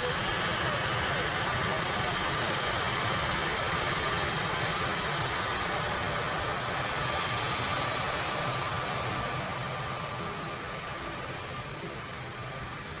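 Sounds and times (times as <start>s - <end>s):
high engine whine: 0.0s - 13.0s
jet engines roaring: 0.0s - 13.0s.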